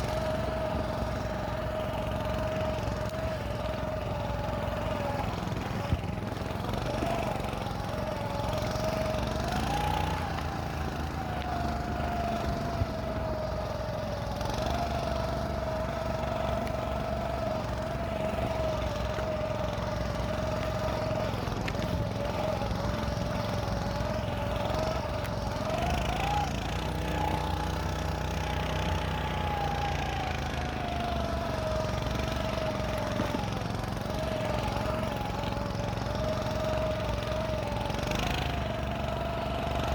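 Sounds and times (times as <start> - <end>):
snow scooter engine running: 0.0 - 39.9.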